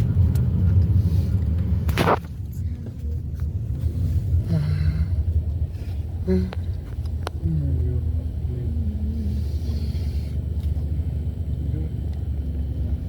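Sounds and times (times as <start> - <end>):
road rumble inside a car: 0.0 - 13.0.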